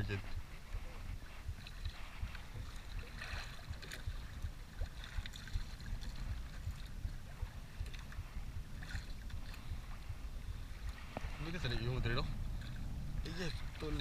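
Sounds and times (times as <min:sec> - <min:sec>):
wind buffeting microphone: 0:00.0 - 0:14.0
water splashing against boat hull: 0:00.1 - 0:14.0.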